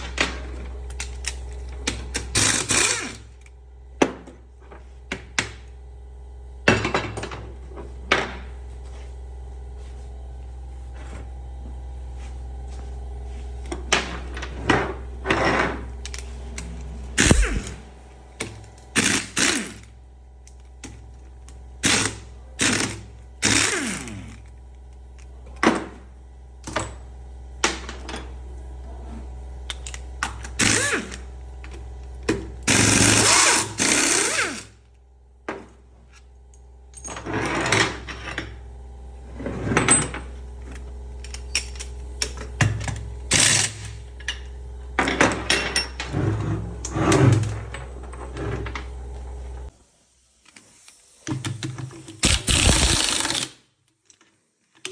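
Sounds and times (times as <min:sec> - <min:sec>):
steady low hum: 0:00.0 - 0:53.5.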